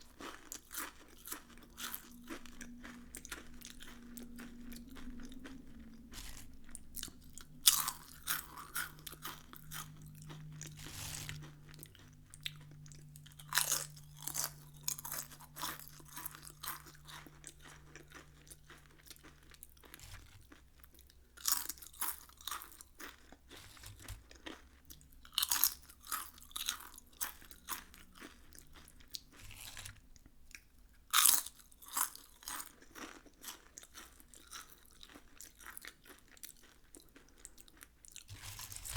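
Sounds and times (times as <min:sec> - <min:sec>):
potato chips crunching: 0:00.0 - 0:38.9.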